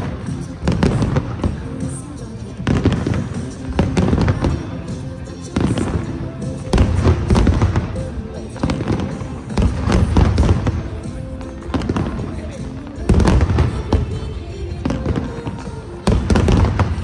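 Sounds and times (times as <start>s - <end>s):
fireworks bursting with bangs: 0.0s - 17.0s.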